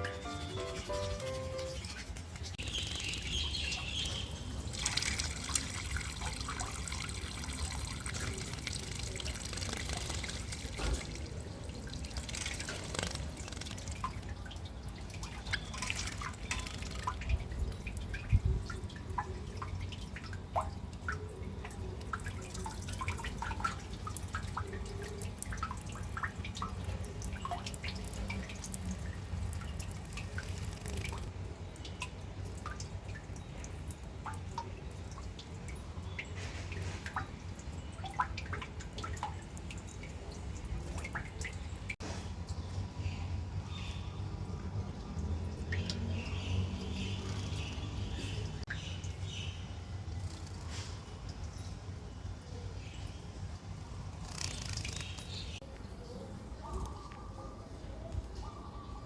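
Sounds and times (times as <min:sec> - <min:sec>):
water splashing and dripping: 0:00.0 - 0:55.9.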